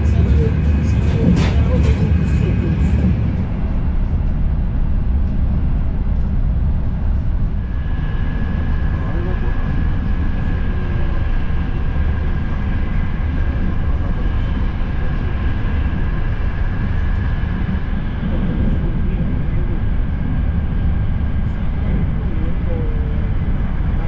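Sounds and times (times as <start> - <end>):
train running rumble: 0.0 - 24.0.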